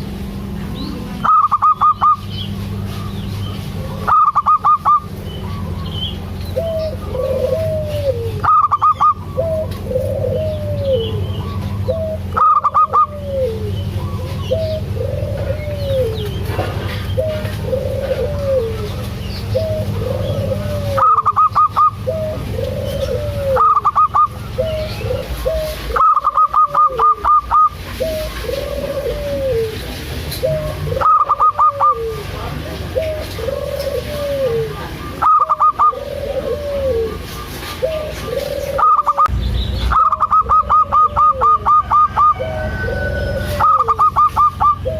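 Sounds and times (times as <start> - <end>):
dove cooing: 0.0 - 39.3, 39.9 - 44.9.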